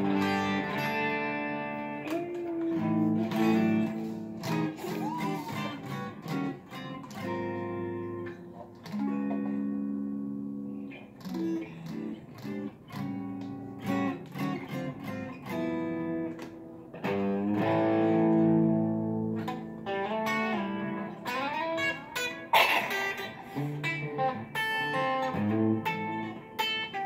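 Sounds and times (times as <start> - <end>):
electric guitar playing: 0.0 - 27.0.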